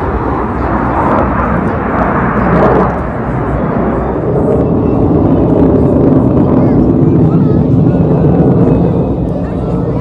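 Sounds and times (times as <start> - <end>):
jets flying overhead: 0.0 - 10.0.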